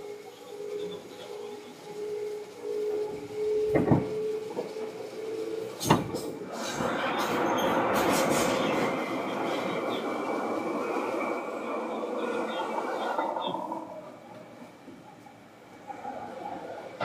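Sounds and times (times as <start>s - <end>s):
electric train whine: 0.0s - 17.0s
train rolling noise: 0.0s - 17.0s.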